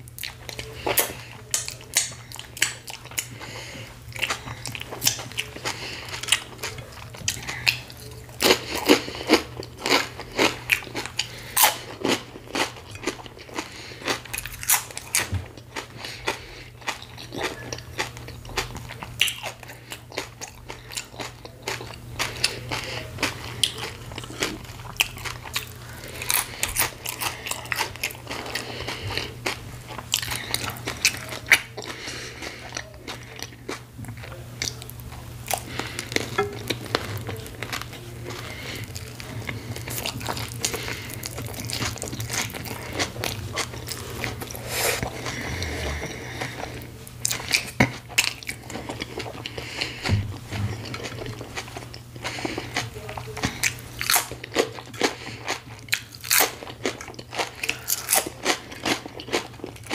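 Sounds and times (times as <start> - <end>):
crunchy chewing: 0.0 - 59.9
steady low hum: 0.0 - 59.9.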